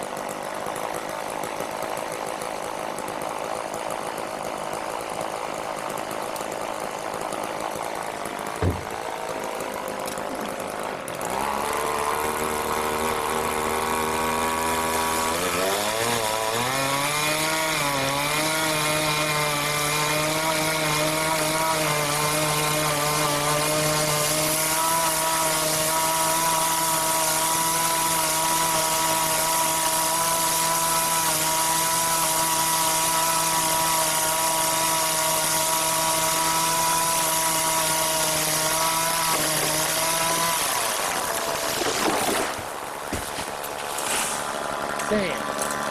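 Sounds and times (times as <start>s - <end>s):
chainsaw running: 0.0s - 45.9s.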